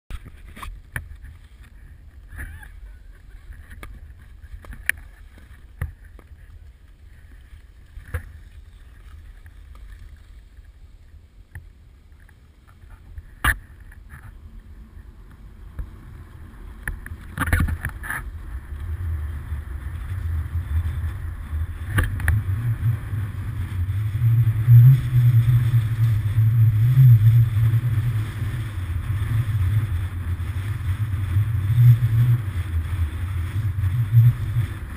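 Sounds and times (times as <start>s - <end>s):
skis sliding on snow: 0.1s - 11.3s, 15.8s - 34.9s
wind rumble on microphone: 0.1s - 34.9s.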